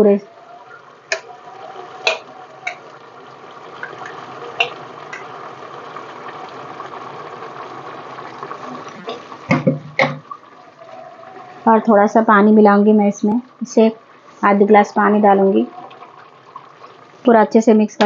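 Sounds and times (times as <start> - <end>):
meat and spices sizzling: 0.0 - 17.3.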